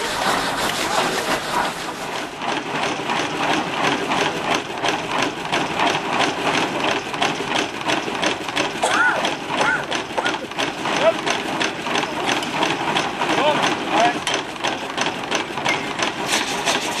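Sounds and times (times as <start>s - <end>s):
steam engine beating: 0.0s - 17.0s.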